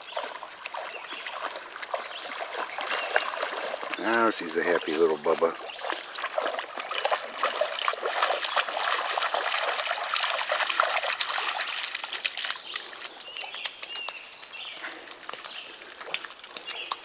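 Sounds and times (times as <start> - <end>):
dog wading through water: 0.0 - 17.0.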